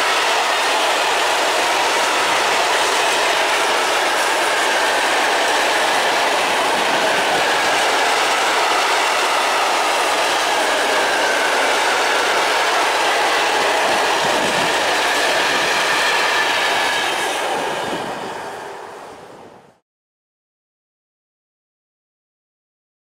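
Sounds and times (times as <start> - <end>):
steel train wheels on rails: 0.0 - 19.8.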